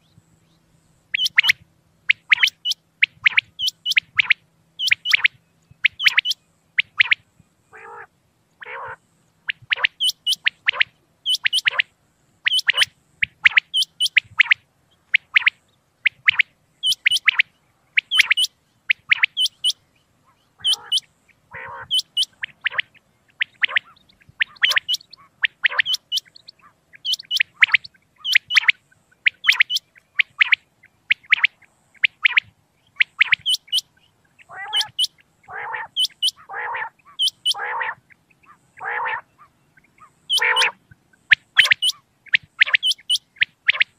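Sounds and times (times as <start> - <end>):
lower rough bird calls: 0.0 - 43.9
quail calling: 1.1 - 43.9.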